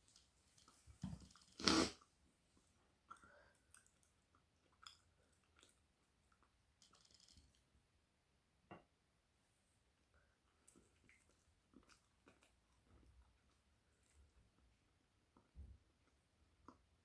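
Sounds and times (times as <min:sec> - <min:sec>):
faint chewing: 0:00.0 - 0:07.6, 0:10.2 - 0:17.0.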